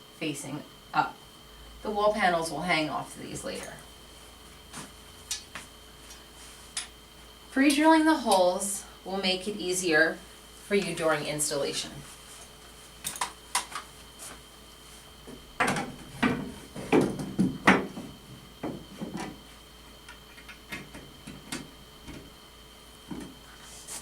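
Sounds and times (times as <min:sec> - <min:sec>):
faint high whine: 0:00.0 - 0:24.0.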